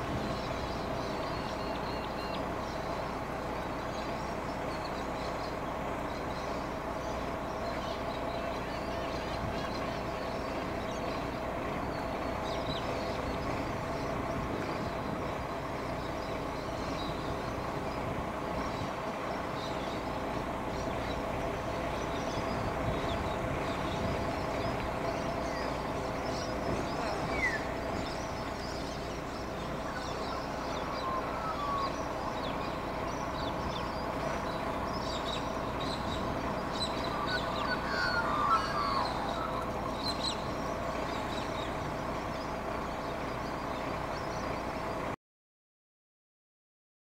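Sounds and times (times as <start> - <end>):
birds chirping and calling: 0.0 - 45.1
mechanical hum with held tones: 0.0 - 45.2.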